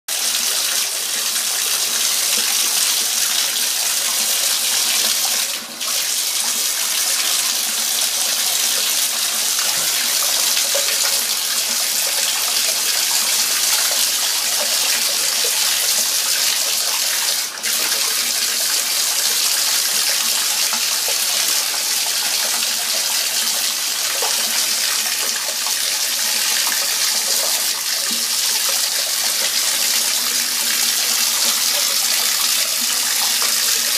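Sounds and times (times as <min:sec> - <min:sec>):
tap water running into tub: 0:00.1 - 0:33.9.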